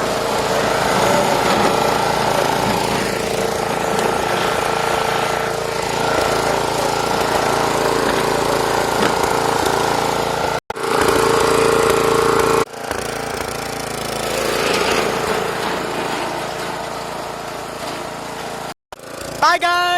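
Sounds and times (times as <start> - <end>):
riding lawn mower engine running: 0.0 - 19.9.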